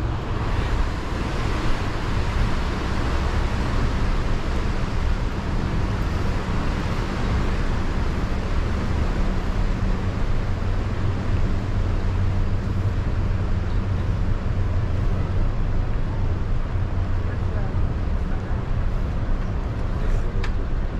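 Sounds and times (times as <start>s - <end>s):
low engine hum: 0.0s - 20.9s
road and wind noise: 0.0s - 20.9s.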